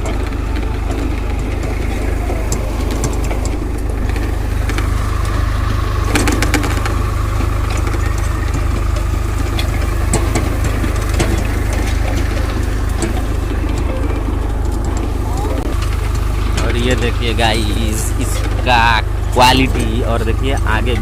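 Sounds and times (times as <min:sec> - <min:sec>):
faint steady whine: 0:00.0 - 0:21.0
tractor diesel engine running: 0:00.0 - 0:21.0.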